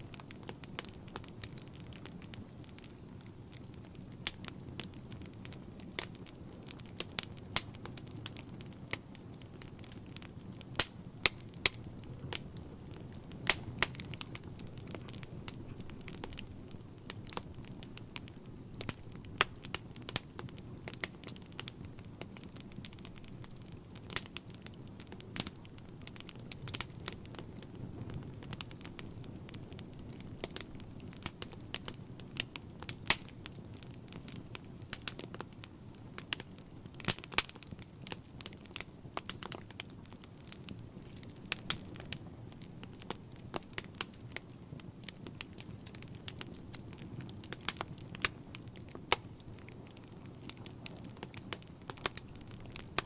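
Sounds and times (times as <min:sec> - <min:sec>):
low rumble of burning: 0:00.0 - 0:53.0
wood fire crackling: 0:00.0 - 0:53.0.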